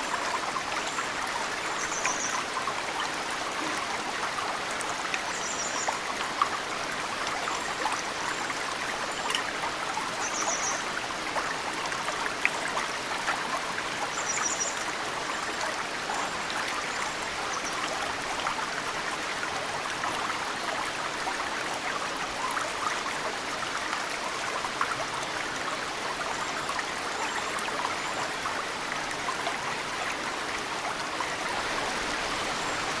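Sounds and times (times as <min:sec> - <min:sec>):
mountain stream flowing: 0:00.0 - 0:33.0
water trickling and dripping: 0:00.0 - 0:33.0.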